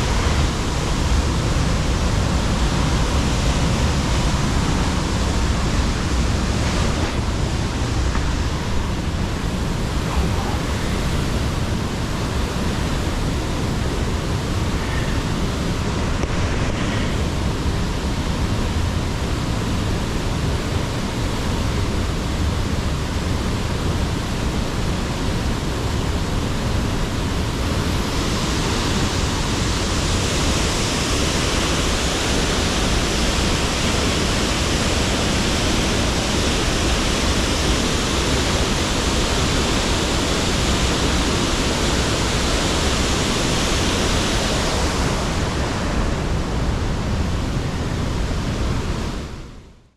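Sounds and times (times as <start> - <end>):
waterfall rushing: 0.0 - 49.2.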